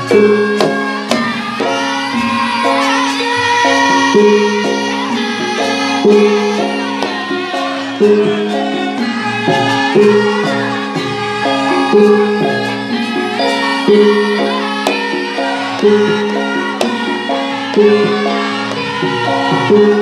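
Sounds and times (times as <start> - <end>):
hand percussion: 0.0 - 20.0
held melody notes: 0.0 - 20.0.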